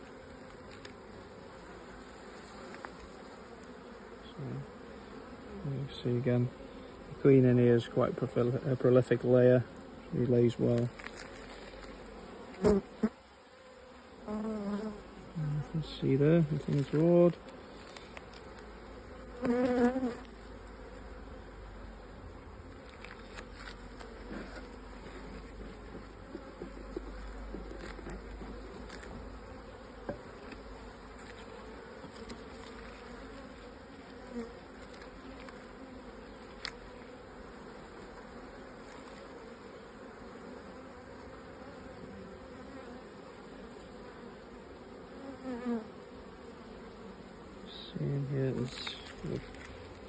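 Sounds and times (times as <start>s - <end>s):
honeybees buzzing: 0.0s - 50.0s.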